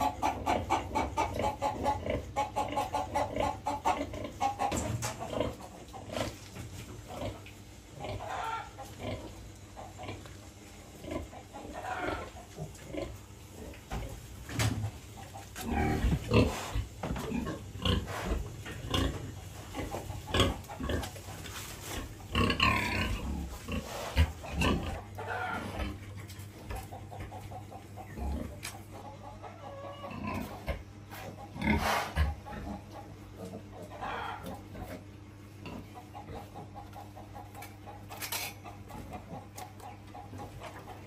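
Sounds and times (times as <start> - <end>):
piglets grunting and squealing: 0.0 - 14.2, 14.8 - 41.0.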